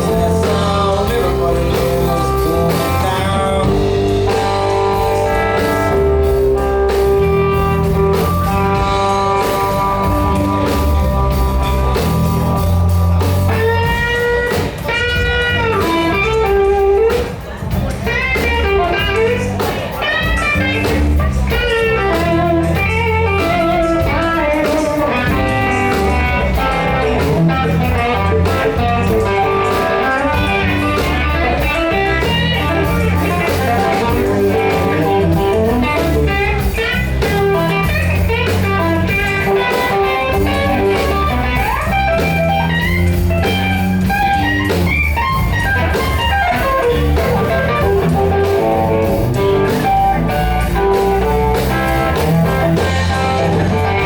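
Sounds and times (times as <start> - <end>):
band playing blues: 0.0 - 54.0
electric guitar lead: 0.0 - 54.0.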